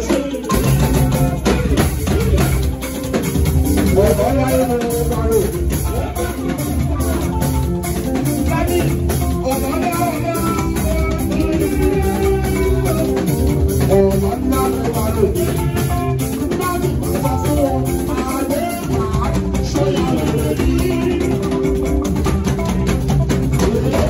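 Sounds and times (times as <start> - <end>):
drum kit beat: 0.0 - 24.0
electric guitar melody: 0.0 - 24.0.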